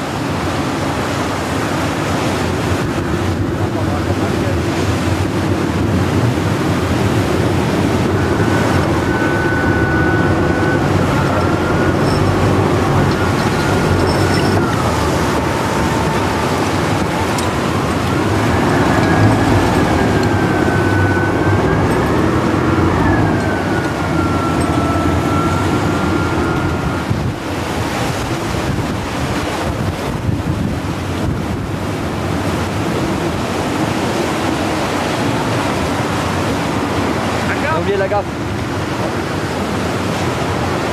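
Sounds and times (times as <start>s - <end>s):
heavy sea breaking: 0.0s - 40.9s
storm wind: 0.0s - 40.9s
wind buffeting microphone: 0.0s - 40.9s.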